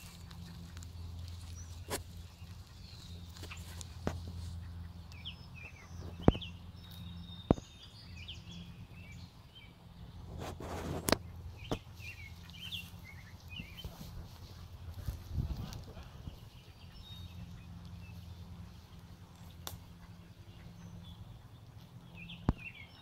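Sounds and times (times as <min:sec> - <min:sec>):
low steady rumble: 0:00.0 - 0:23.0
songbirds chirping: 0:00.0 - 0:23.0.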